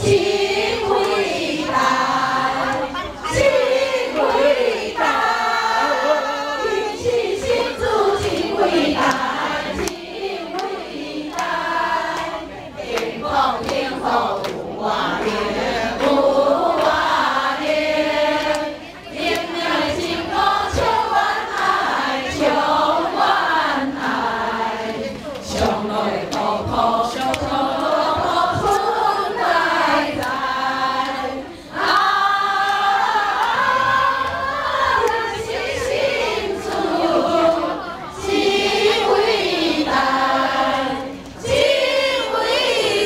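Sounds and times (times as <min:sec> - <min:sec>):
women singing together: 0:00.0 - 0:43.0.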